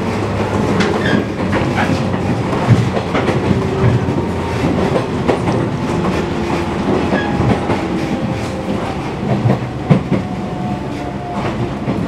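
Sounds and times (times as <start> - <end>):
train running rumble: 0.0 - 12.0
wheels clacking over rail joints: 0.0 - 12.0.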